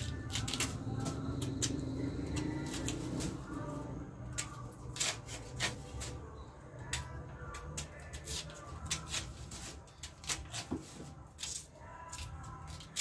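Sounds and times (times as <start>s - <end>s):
knife scraping peel off root: 0.0s - 3.5s, 4.3s - 6.2s, 6.9s - 13.0s.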